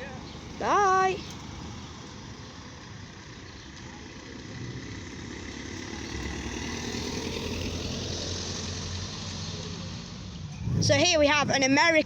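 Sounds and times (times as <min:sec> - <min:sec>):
tyre and road noise: 0:00.0 - 0:12.0.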